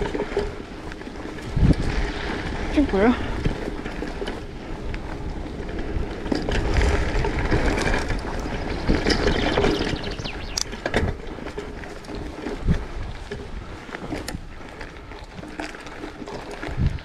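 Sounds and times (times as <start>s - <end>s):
rumble and rattle of riding: 0.0s - 17.0s
wind buffeting microphone: 0.0s - 17.0s.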